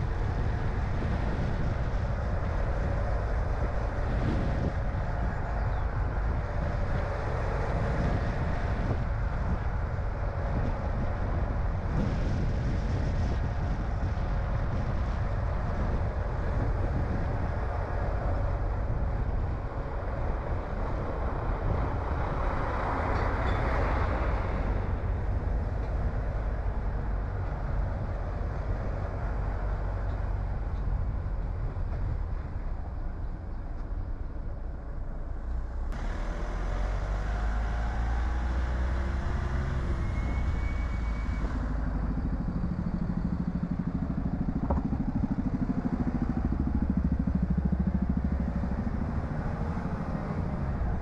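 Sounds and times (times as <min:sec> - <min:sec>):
car engine and tyre rumble: 0:00.0 - 0:51.0
wind noise: 0:00.0 - 0:51.0.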